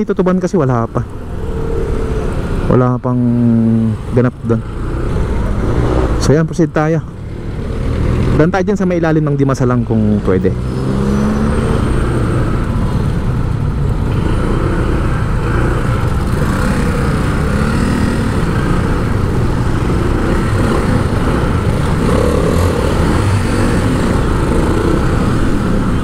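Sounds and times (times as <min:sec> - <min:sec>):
vehicle rumble on city street: 0:00.0 - 0:26.0.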